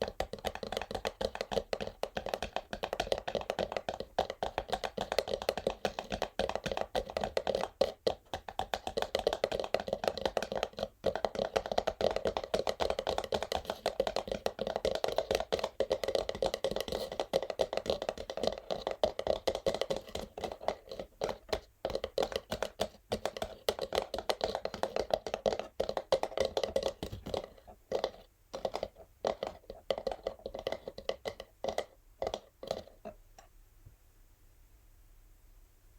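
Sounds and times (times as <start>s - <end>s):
fingernails tapping on cardboard box: 0.0s - 32.8s.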